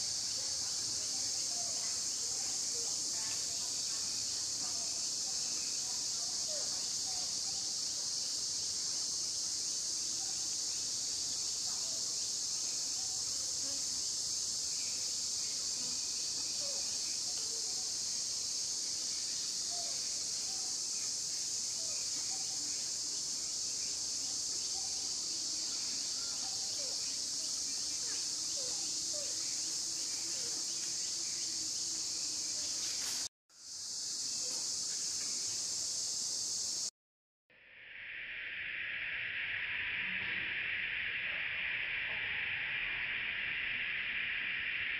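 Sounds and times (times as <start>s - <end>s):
insects droning: 0.0s - 36.9s, 37.6s - 44.9s.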